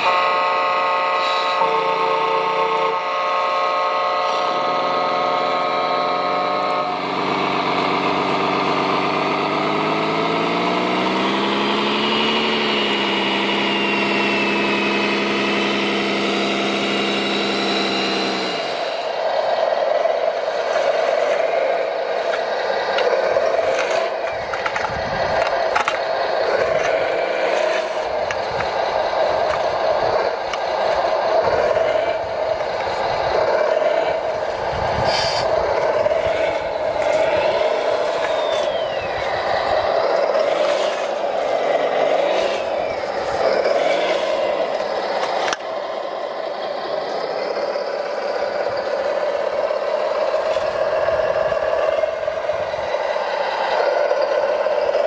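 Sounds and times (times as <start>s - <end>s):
model loader motor and gears: 0.0s - 55.0s
model truck motors whining: 0.0s - 55.0s.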